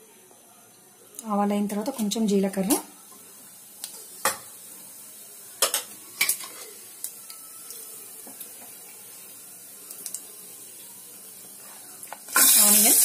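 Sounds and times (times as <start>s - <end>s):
seeds sizzling in hot oil: 1.3s - 13.0s.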